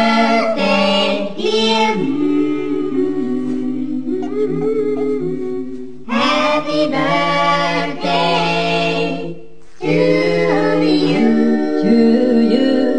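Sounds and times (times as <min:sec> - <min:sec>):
a cappella singing: 0:00.0 - 0:12.9.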